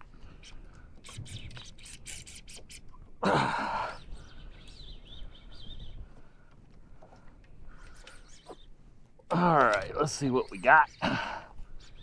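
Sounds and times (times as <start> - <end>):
faint bird chirps: 0.2 - 8.8, 10.0 - 12.0.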